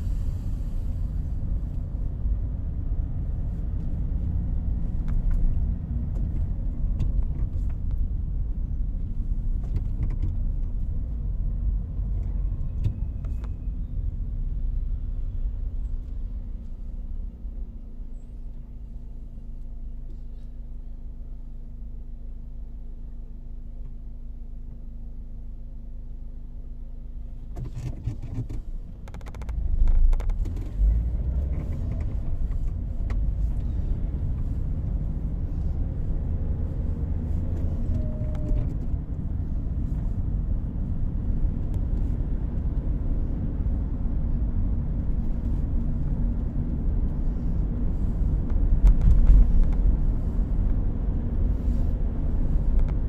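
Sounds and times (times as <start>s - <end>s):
engine and road noise rumble: 0.0s - 53.0s.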